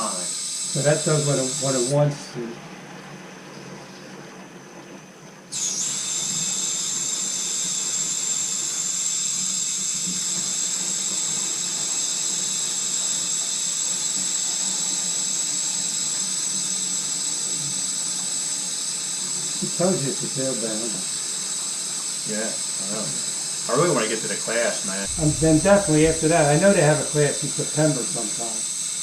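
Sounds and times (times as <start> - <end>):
water rushing through a valve: 0.0 - 23.7, 25.0 - 29.0.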